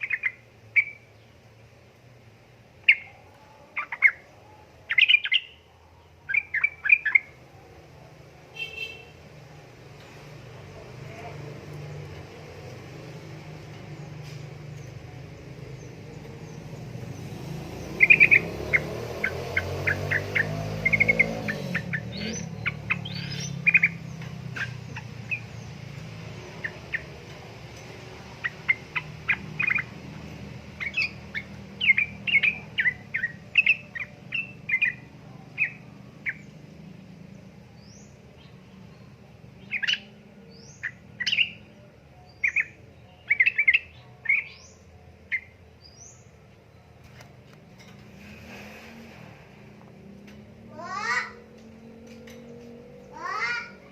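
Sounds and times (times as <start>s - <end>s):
bird chirping: 0.0s - 1.6s, 2.8s - 7.7s, 8.4s - 49.1s.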